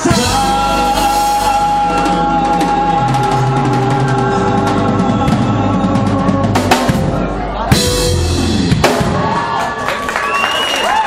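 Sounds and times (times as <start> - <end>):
bass line: 0.0 - 9.8.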